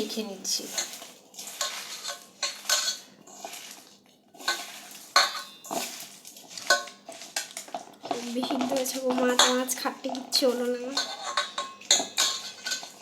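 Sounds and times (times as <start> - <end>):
utensil clinking against a dish: 0.6 - 13.0.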